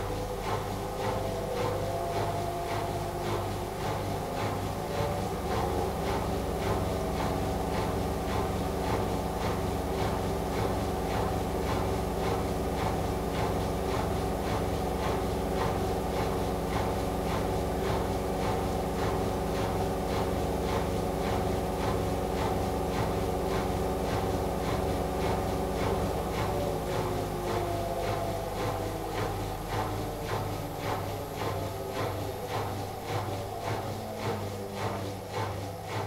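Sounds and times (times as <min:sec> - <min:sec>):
washing machine spin whine: 0:00.0 - 0:36.0.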